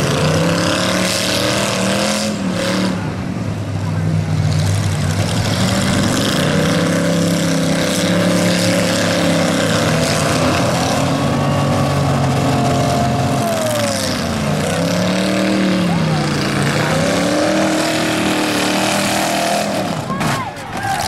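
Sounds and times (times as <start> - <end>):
engine revving: 0.0 - 3.2, 3.9 - 21.0
car engines idling: 2.5 - 21.0.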